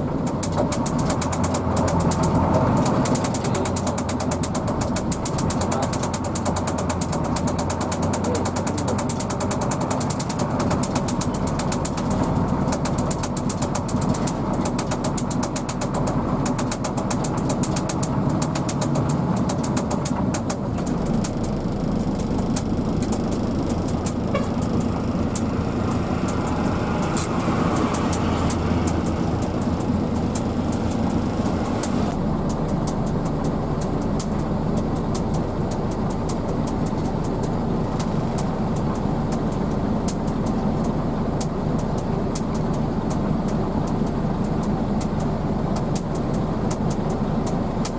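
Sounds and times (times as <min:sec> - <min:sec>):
bus engine and road noise: 0:00.0 - 0:47.9
sharp clicks or rattles: 0:00.2 - 0:47.9.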